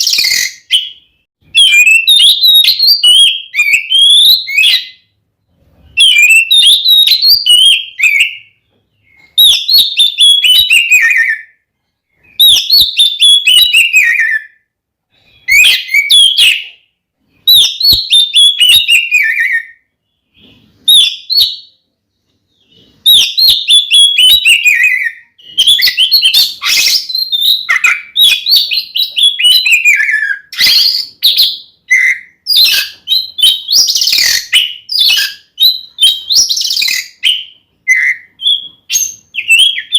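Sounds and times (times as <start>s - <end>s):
bird singing loud song: 0.0s - 39.9s.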